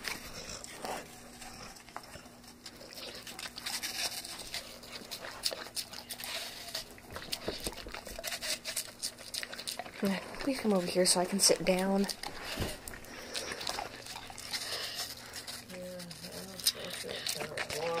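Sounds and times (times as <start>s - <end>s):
pet crunching apple: 0.0s - 18.0s.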